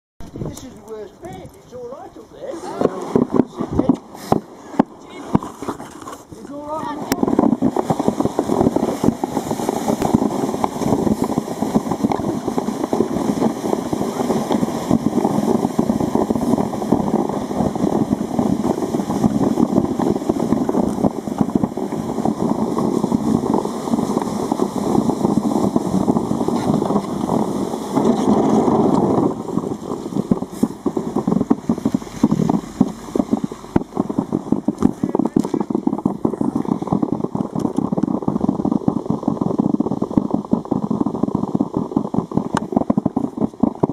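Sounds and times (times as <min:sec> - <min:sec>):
sledge scraping over snow: 0:00.2 - 0:39.1.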